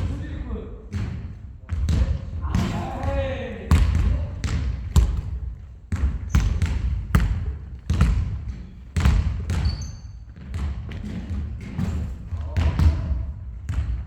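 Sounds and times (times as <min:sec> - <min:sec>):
basketballs bouncing on gym floor: 0:00.0 - 0:14.0.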